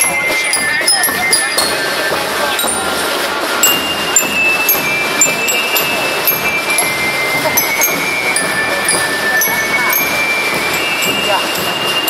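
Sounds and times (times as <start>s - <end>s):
crowd chatter: 0.0s - 12.0s
marching music with bell-like notes: 0.0s - 12.0s.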